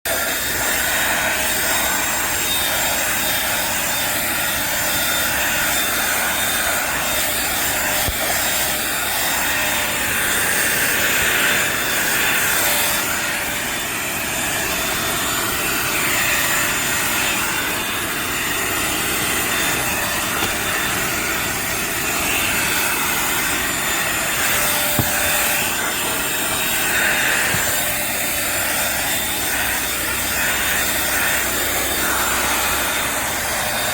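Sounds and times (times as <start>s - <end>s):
stick vacuum motor whine: 0.1s - 33.9s.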